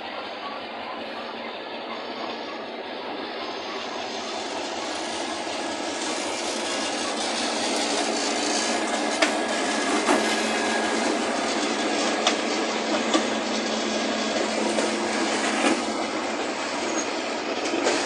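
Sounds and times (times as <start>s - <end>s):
freight locomotives passing: 0.0s - 18.0s.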